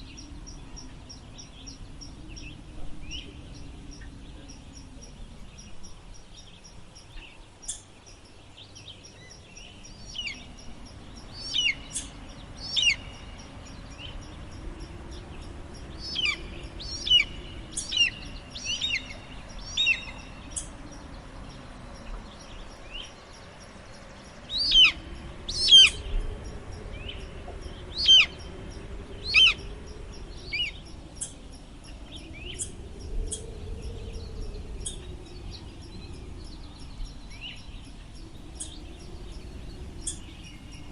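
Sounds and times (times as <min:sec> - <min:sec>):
gentle wind: 0:00.0 - 0:40.9.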